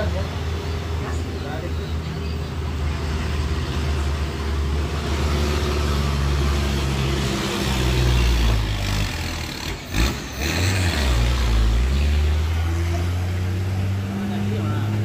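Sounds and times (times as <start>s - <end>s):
bus engine rumble: 0.0s - 15.0s
road noise: 0.0s - 15.0s.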